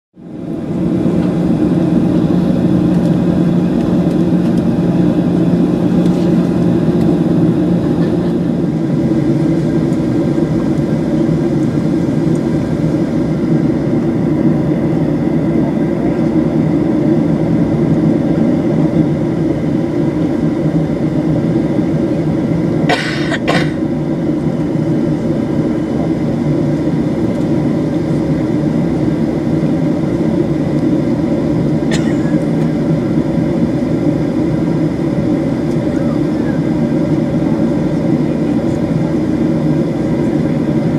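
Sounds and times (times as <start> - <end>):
jet engines humming and whining: 0.2 - 40.9.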